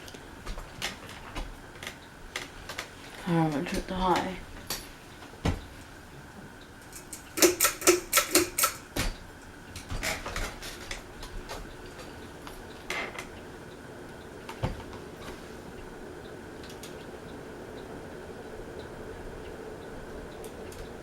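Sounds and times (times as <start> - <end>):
ceiling fan hum: 0.0 - 21.0.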